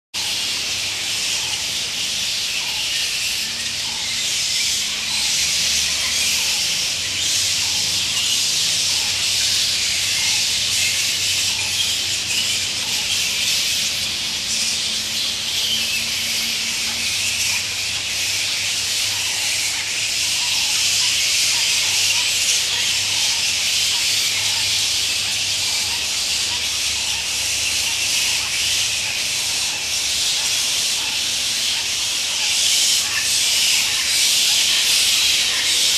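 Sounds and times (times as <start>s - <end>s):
fruit bats screeching and chattering: 0.2s - 35.9s.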